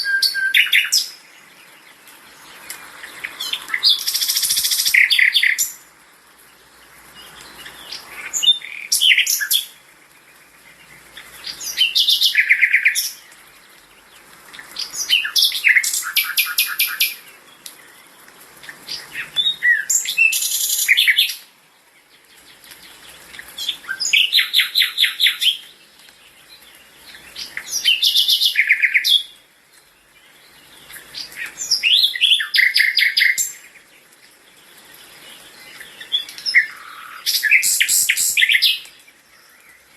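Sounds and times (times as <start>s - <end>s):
songbird singing trilled notes: 0.0s - 5.8s, 6.4s - 39.9s.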